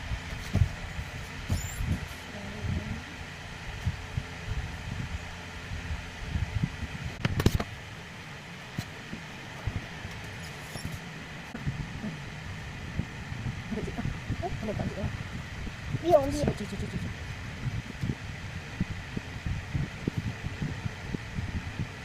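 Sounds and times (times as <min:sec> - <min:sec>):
fan-like hum: 0:00.0 - 0:22.0.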